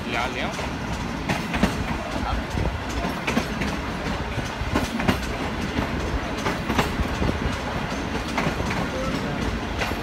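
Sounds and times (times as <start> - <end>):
train wheels rumbling: 0.0 - 10.0
wheels clicking on rails: 0.0 - 10.0.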